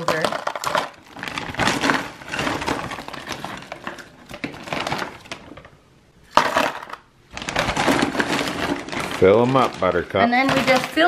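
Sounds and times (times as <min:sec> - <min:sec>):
frozen strawberries rattling in plastic bag: 0:00.0 - 0:05.7, 0:06.3 - 0:11.0
strawberries clattering into plastic container: 0:00.0 - 0:05.7, 0:06.3 - 0:11.0.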